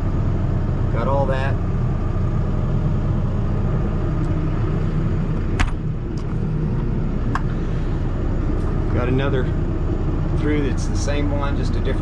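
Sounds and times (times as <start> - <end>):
engine running drone: 0.0 - 12.0.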